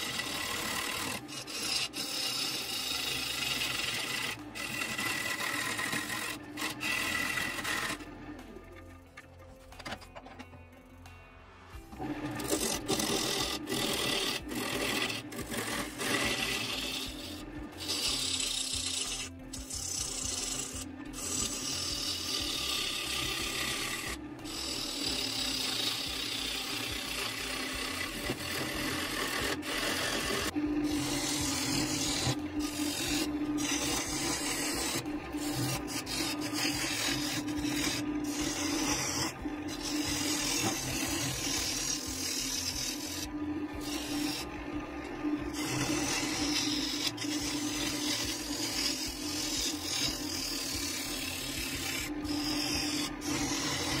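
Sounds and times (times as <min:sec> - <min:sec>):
gouge shaving wood: 0:00.0 - 0:08.9, 0:12.0 - 0:54.0
lathe humming: 0:00.0 - 0:09.4, 0:11.8 - 0:54.0.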